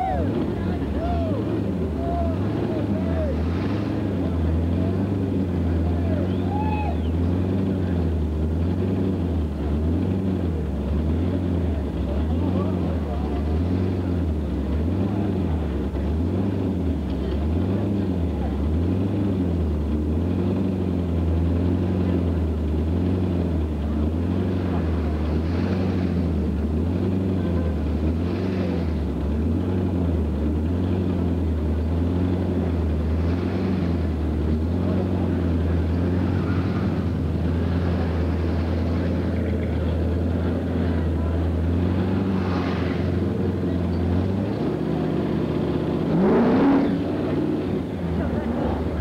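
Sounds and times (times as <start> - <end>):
car engine lumpy idle: 0.0 - 49.0.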